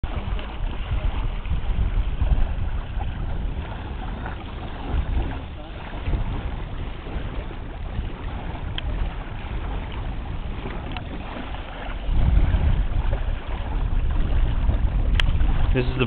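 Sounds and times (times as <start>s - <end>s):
wind buffeting a microphone: 0.0s - 16.0s.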